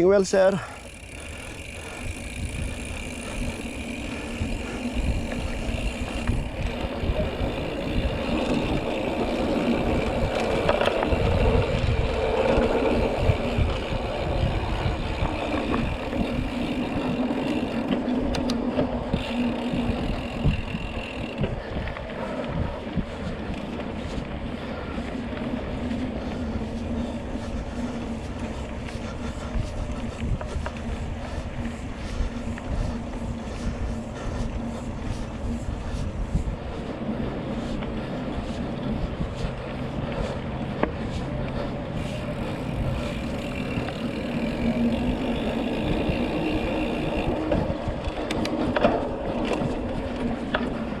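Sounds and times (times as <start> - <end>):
wind on microphone: 1.2 - 51.0.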